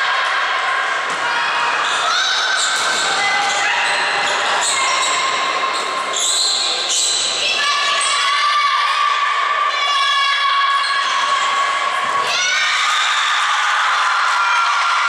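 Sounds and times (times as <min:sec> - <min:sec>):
people shouting and cheering: 0:00.0 - 0:15.0.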